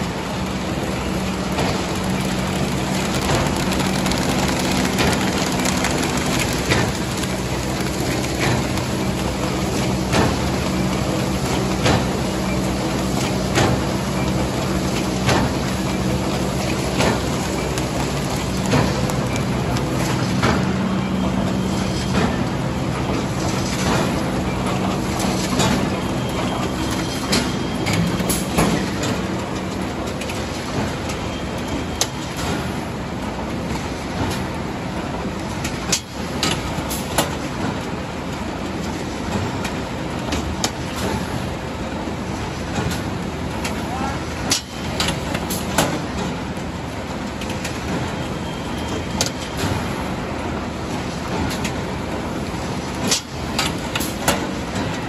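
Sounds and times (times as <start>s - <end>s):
machine humming and clattering: 0.0s - 55.0s.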